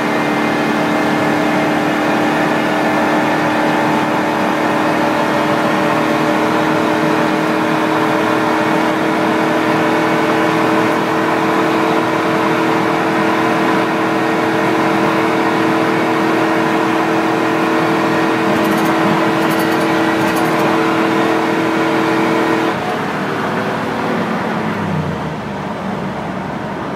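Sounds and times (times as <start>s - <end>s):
engine drone: 0.0s - 26.9s
wind and road noise: 0.0s - 26.9s.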